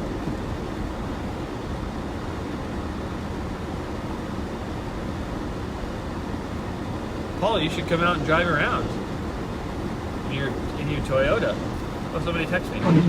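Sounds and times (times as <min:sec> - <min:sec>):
car engine: 0:00.0 - 0:13.0
defroster fan: 0:00.0 - 0:13.0.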